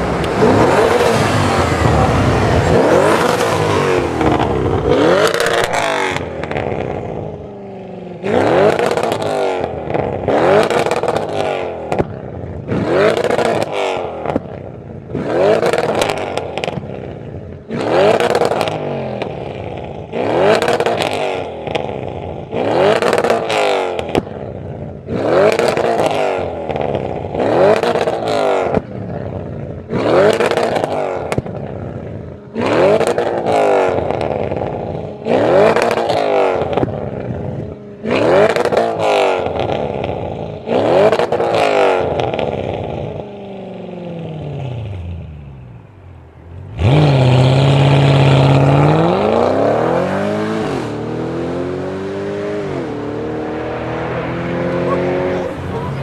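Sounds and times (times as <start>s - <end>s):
car accelerating hard: 0.0s - 7.4s, 8.2s - 43.3s, 46.5s - 56.0s
car engine revving: 0.0s - 56.0s.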